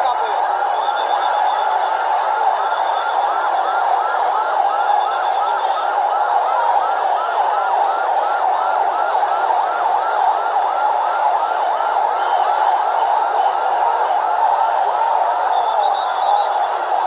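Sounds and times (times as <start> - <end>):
siren on fast yelp: 0.0 - 17.0.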